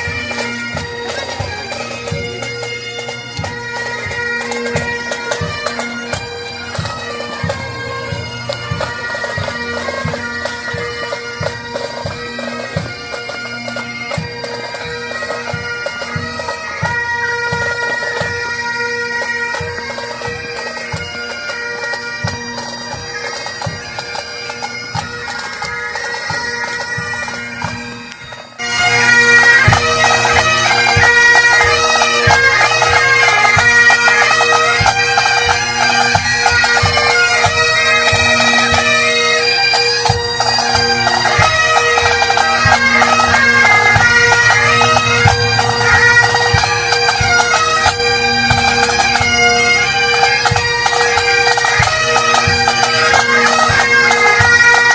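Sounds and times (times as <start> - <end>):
bagpipes playing a tune: 0.0 - 54.9.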